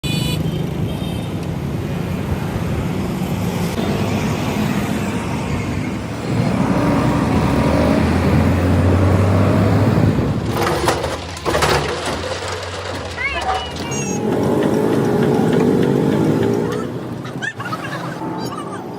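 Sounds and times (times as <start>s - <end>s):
road traffic: 0.0s - 18.9s.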